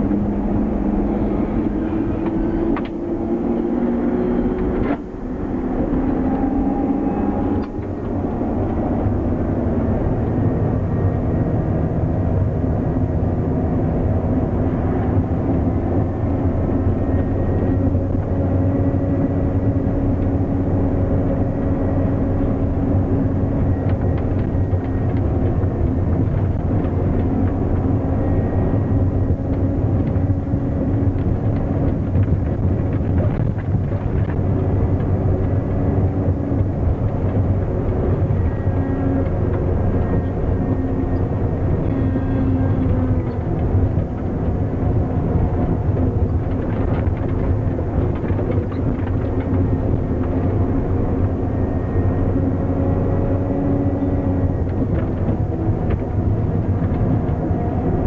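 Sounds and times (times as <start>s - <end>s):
diesel truck engine under load: 0.0s - 58.0s.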